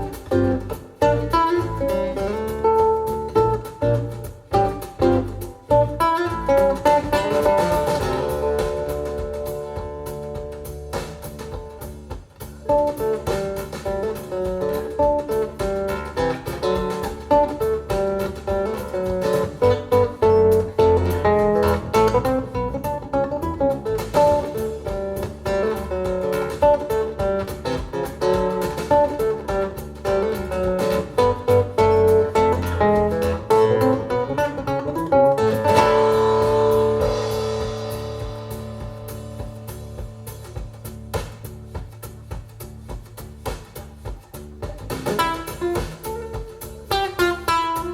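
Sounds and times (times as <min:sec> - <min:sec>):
guitar over loudspeakers: 0:00.0 - 0:11.8, 0:12.6 - 0:40.7.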